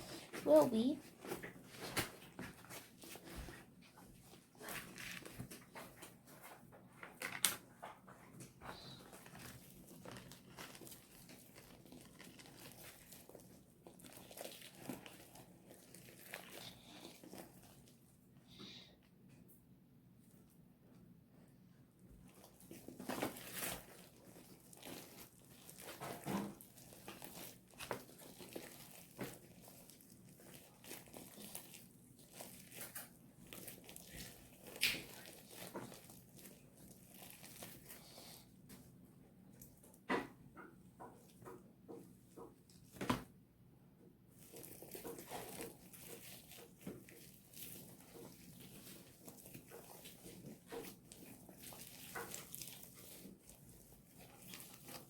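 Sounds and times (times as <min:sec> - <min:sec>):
slime squishing by hand: 0:00.0 - 0:18.9, 0:21.3 - 0:43.4, 0:44.3 - 0:55.0.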